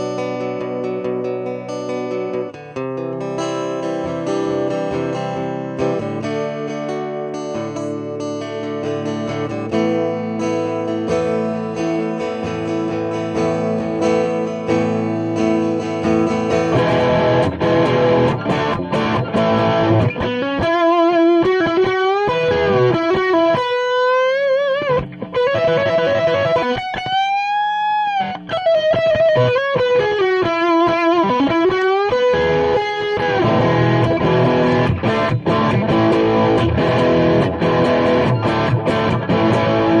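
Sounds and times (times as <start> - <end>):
electric guitar chords: 0.0 - 40.0
electric guitar lead with bends: 0.0 - 40.0.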